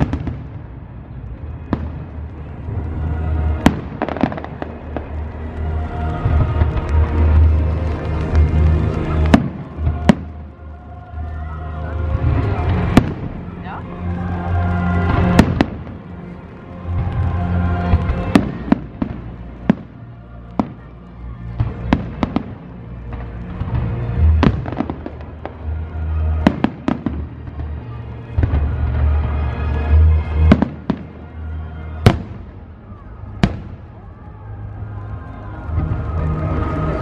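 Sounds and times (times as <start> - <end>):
fireworks bursting: 0.0 - 13.6, 14.2 - 34.4
music playing: 0.0 - 37.0.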